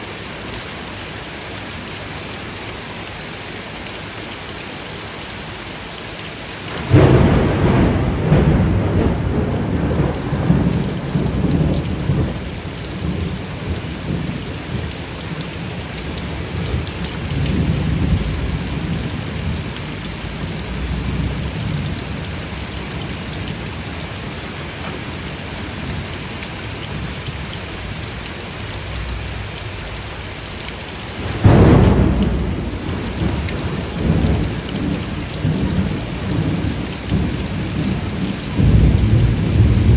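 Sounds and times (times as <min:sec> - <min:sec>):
heavy rain: 0:00.0 - 0:39.9
thunder rumbling: 0:06.7 - 0:30.5, 0:31.1 - 0:39.9.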